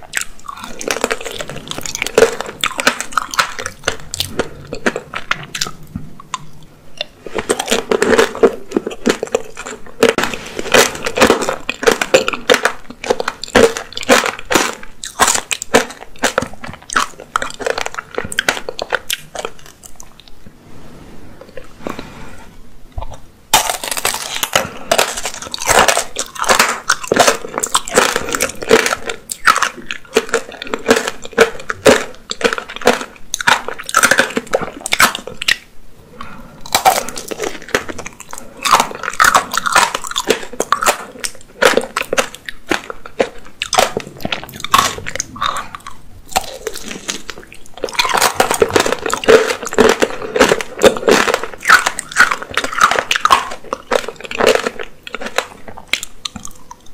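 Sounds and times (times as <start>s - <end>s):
candy shell cracking and crunching: 0.0s - 20.2s, 23.5s - 35.7s, 36.6s - 56.9s
biting and chewing: 0.0s - 20.4s, 22.9s - 56.9s.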